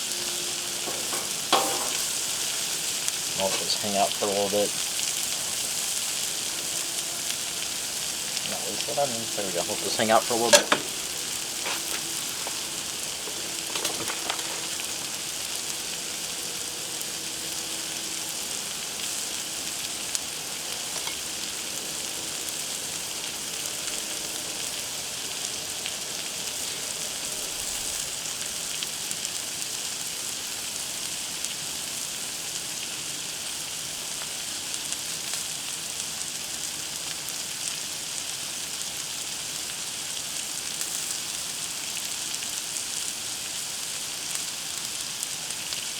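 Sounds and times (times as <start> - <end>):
food sizzling on griddle: 0.0 - 45.9.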